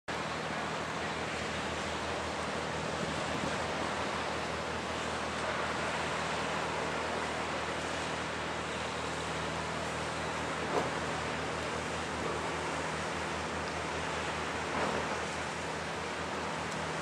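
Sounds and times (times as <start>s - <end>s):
low engine drone: 0.1s - 17.0s
wind and water rushing: 0.1s - 17.0s.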